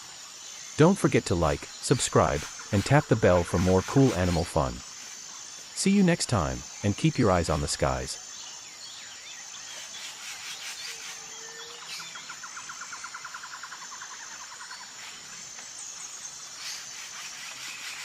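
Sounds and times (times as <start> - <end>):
background hiss: 0.0 - 18.0.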